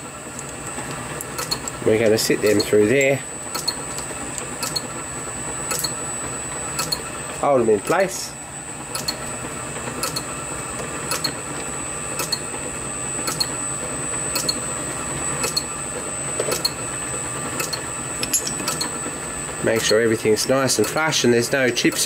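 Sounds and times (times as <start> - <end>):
mechanical hum with whine: 0.0 - 22.0.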